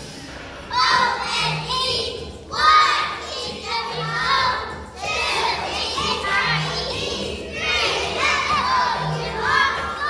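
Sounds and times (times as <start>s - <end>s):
children singing in unison: 0.7s - 10.0s.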